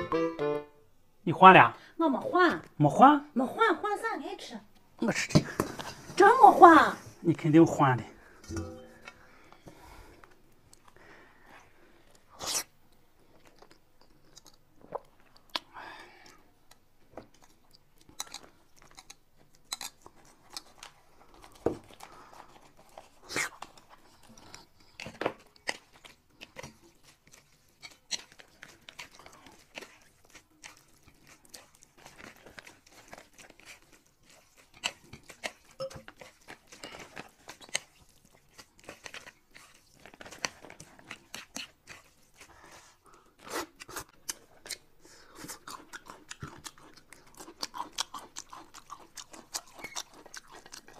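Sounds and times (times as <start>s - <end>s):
chewing and crunching: 9.0s - 50.9s.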